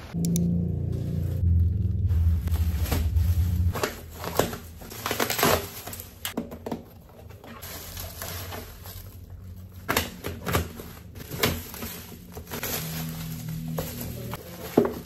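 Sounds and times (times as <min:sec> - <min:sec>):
bubble wrap rustling and crackling: 0:01.0 - 0:15.0.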